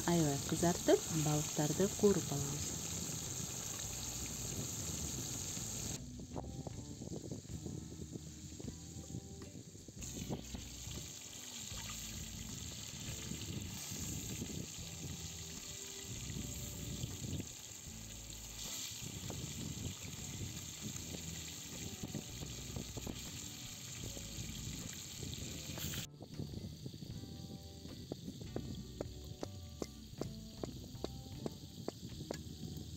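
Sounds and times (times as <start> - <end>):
fish sizzling in hot oil: 0.0 - 6.1, 9.9 - 32.9.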